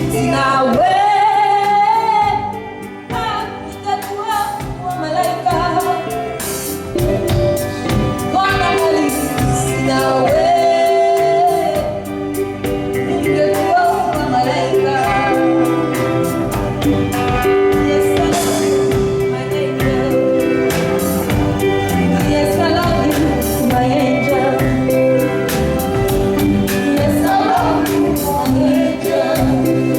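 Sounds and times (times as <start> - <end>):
lead singer singing: 0.0 - 29.9
steady drum beat: 2.2 - 29.9.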